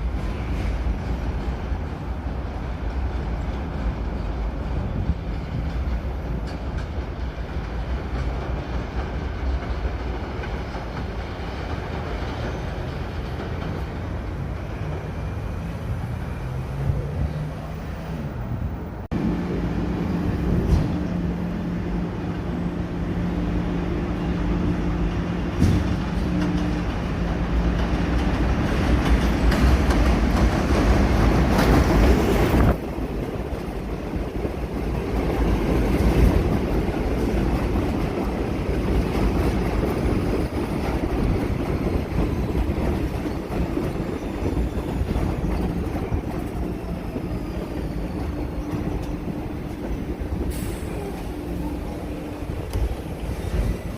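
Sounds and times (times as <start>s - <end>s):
subway train wheels on rail: 0.0s - 53.9s.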